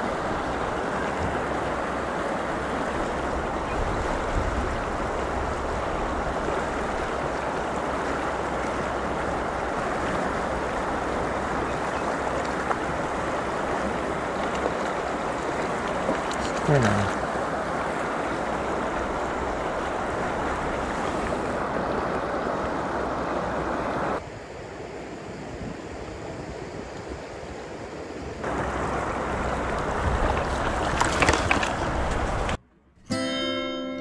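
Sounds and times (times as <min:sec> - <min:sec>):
water rushing over rocks: 0:00.0 - 0:25.4, 0:27.6 - 0:32.6.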